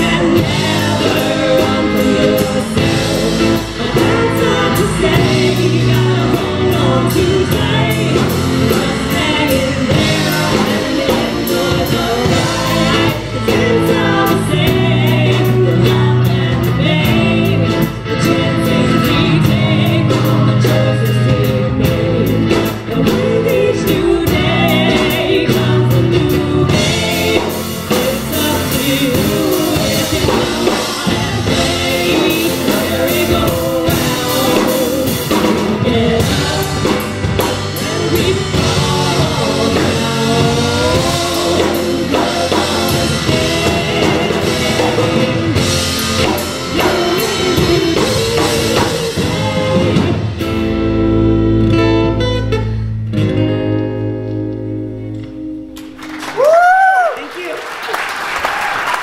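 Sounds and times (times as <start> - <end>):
woman singing backing vocals: 0.0 - 50.2
woman singing lead: 0.0 - 50.5
drum kit: 0.0 - 54.5.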